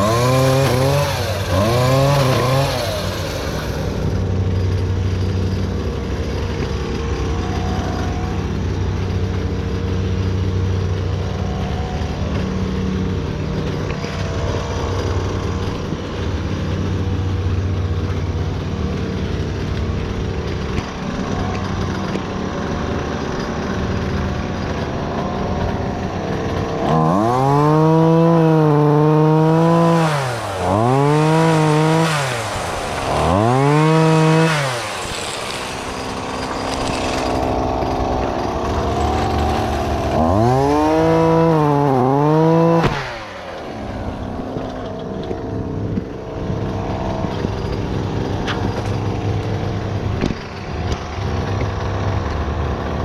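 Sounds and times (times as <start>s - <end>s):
chainsaw revving: 0.0s - 53.0s
low engine hum: 0.0s - 53.0s.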